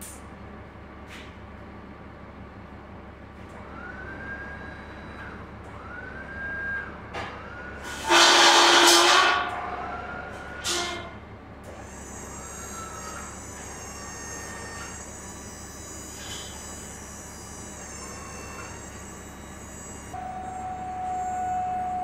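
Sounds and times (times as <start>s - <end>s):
crane motor whining: 3.4s - 22.0s.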